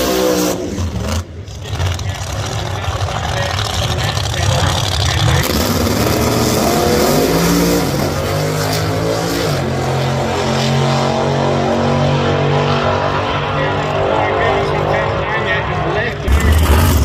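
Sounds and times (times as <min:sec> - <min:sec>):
drag racing car accelerating: 0:00.0 - 0:17.0.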